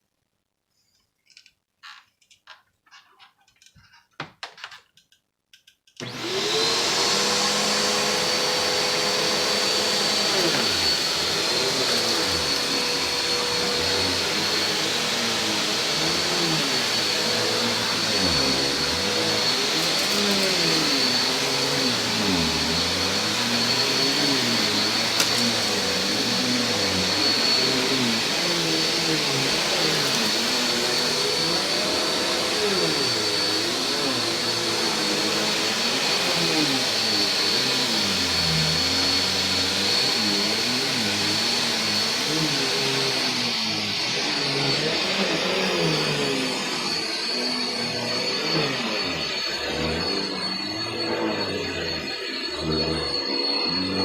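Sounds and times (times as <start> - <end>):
upright vacuum cleaner whining: 6.0 - 54.0.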